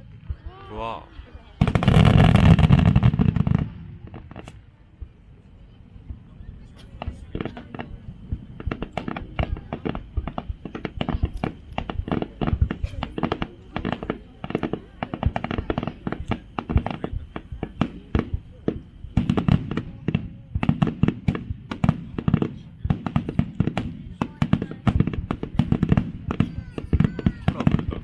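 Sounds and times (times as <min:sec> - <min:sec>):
crackling small firework bursts: 0:00.0 - 0:28.0.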